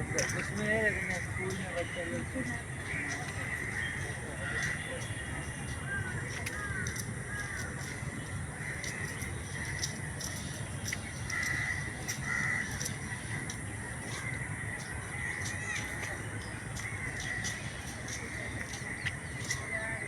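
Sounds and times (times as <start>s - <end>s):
crows cawing: 0.0s - 20.0s.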